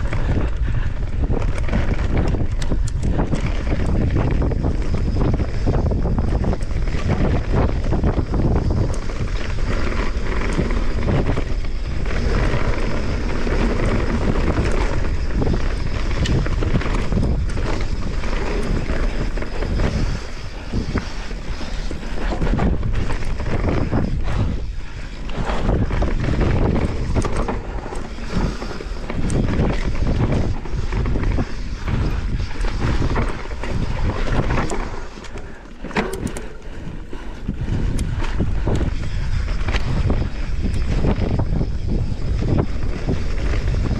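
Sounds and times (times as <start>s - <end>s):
bike rattling over bumps: 0.0s - 43.9s
wind buffeting microphone: 0.0s - 43.9s.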